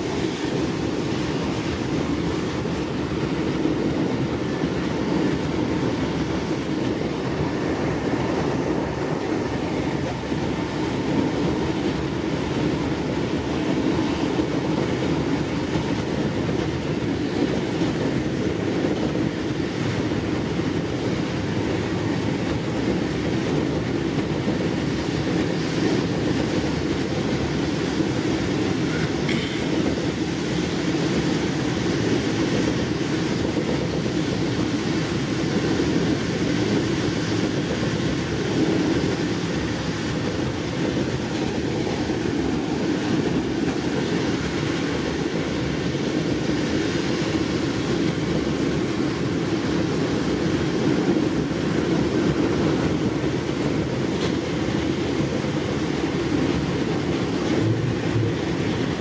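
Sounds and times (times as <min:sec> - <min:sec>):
train coach rolling on rails: 0:00.0 - 0:59.0.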